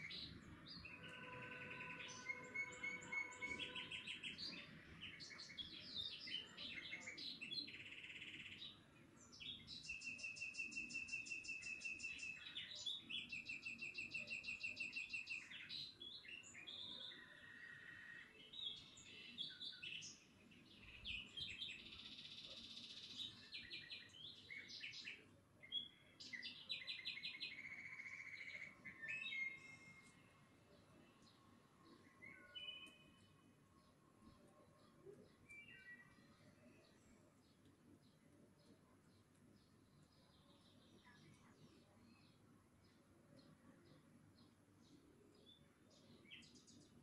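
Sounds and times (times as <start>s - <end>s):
songbird singing: 0.0s - 47.0s.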